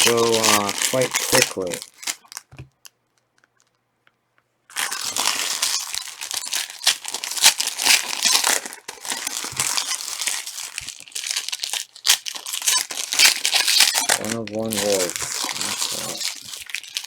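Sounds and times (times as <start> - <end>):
plastic wrapping torn and crinkled: 0.0 - 3.8, 4.7 - 17.0.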